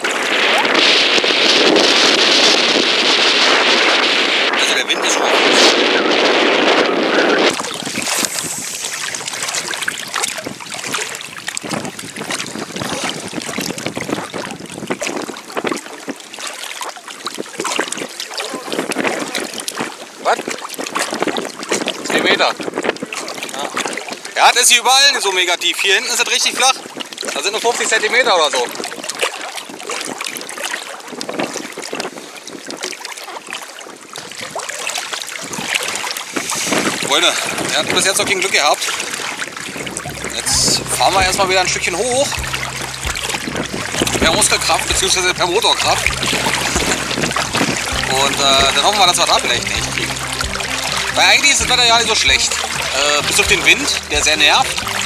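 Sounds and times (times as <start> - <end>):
wind buffeting microphone: 0.0 - 33.1, 33.7 - 55.0
water lapping and splashing: 0.0 - 55.0.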